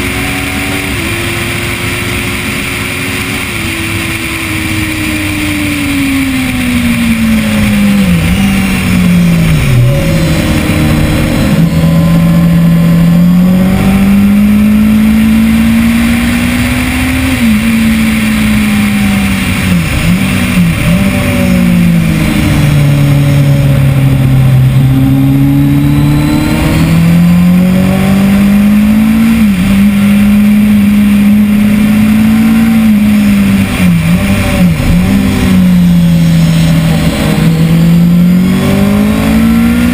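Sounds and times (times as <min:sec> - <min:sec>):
motorcycle engine pulling hard: 0:00.0 - 0:39.9.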